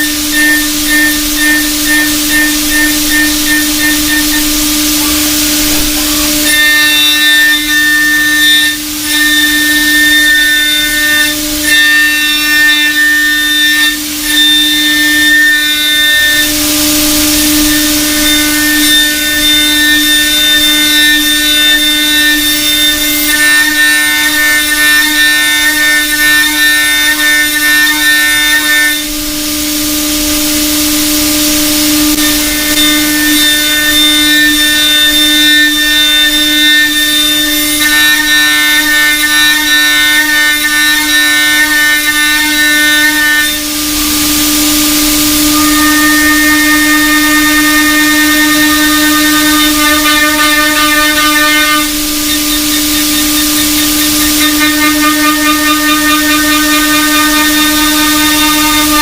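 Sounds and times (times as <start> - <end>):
milling machine cutting whine: 0.0 - 59.0.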